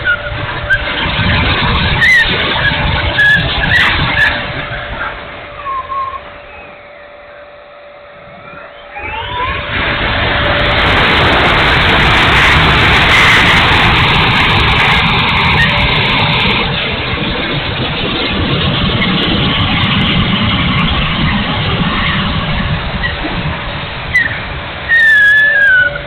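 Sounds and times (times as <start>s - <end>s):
electric ducted fan rushing: 0.0s - 26.0s.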